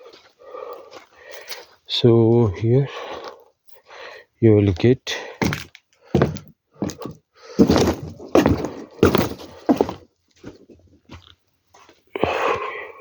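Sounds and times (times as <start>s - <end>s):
footsteps walking with dull thunks: 0.0s - 4.0s, 4.7s - 12.7s.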